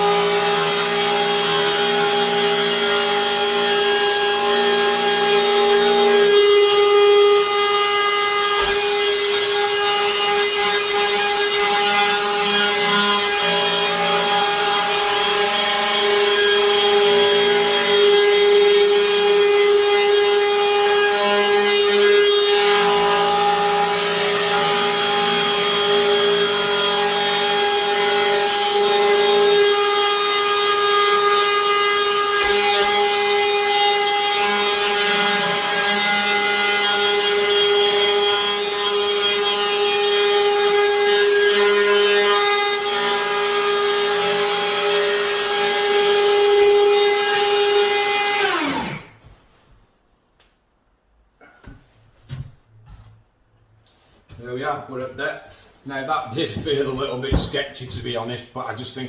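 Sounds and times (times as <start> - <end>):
router high-pitched whine: 0.0 - 49.2
router cutting wood: 0.0 - 49.3.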